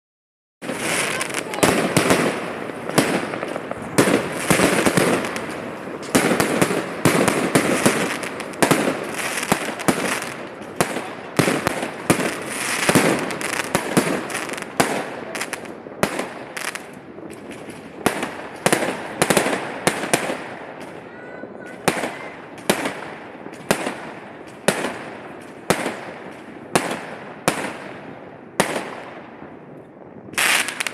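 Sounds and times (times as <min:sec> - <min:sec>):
fireworks bangs: 0:00.6 - 0:30.9.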